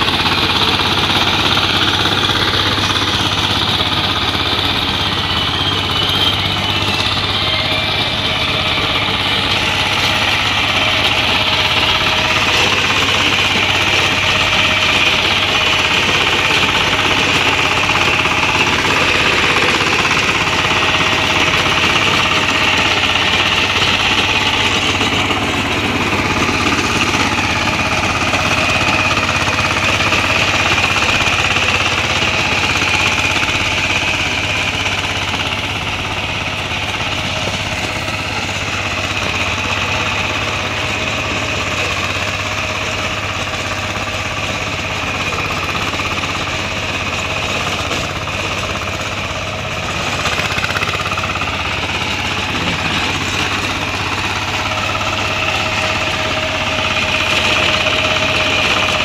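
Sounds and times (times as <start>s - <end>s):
power tiller engine running: 0.0s - 59.0s.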